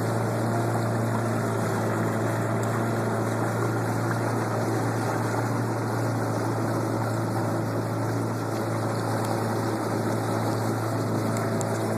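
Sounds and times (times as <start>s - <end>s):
boat engine humming: 0.0s - 11.9s
water noise: 0.0s - 11.9s.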